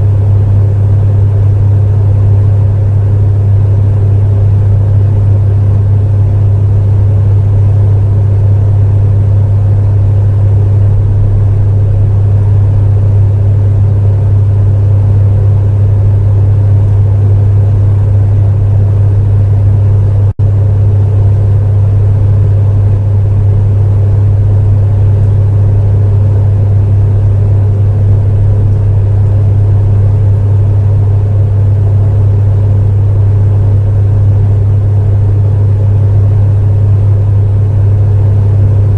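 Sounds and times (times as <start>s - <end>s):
space heater humming and rushing: 0.0s - 38.9s.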